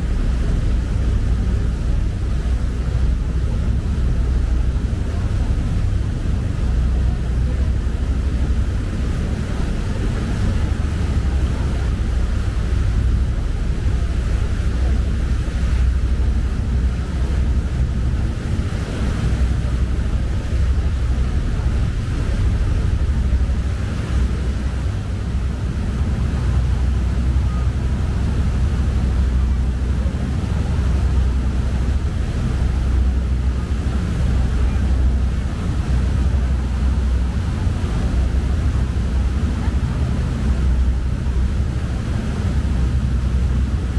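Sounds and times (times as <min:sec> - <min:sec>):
boat engine rumble: 0:00.0 - 0:43.9
water rushing: 0:00.0 - 0:43.9
wind buffeting microphone: 0:00.0 - 0:43.9.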